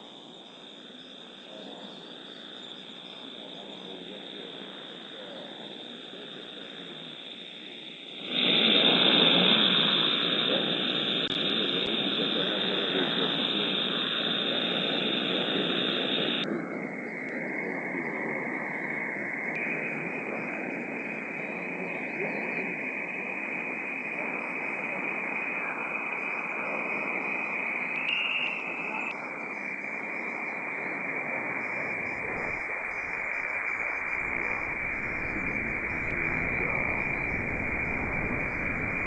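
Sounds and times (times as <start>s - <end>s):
radio receiver noise hiss: 0.0s - 39.0s.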